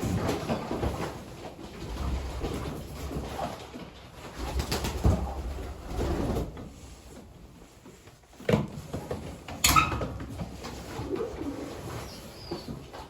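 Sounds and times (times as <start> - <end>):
rustling and clatter: 0.0 - 13.0.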